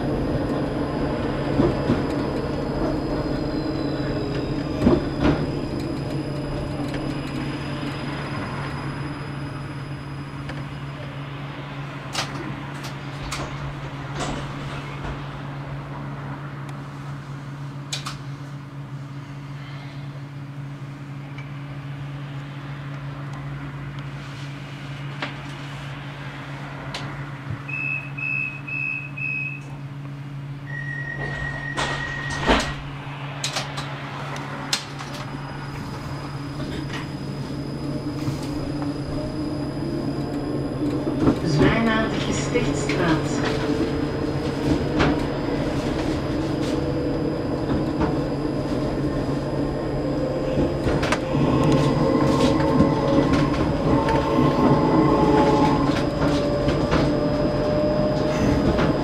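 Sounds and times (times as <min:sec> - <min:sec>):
tram motor whine: 0:00.0 - 0:59.0.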